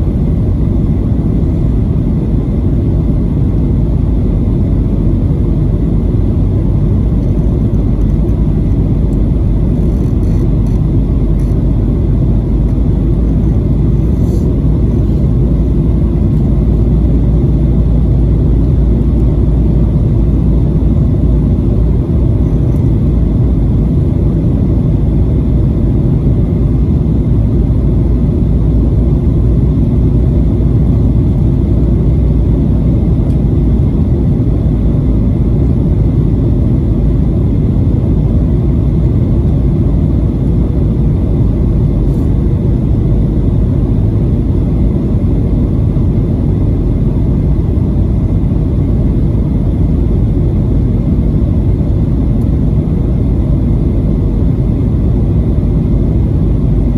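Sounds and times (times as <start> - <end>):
airliner cabin roar: 0.0 - 56.9
faint steady whine: 0.0 - 56.9.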